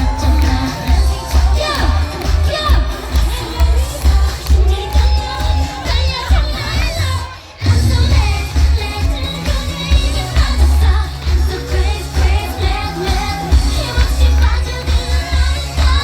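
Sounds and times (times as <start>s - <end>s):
pop backing track with bass beat: 0.0s - 16.0s
woman singing: 0.0s - 16.0s.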